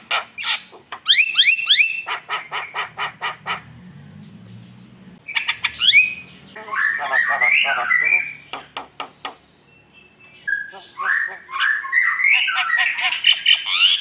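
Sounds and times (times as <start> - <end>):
myna bird calling: 0.0 - 14.0.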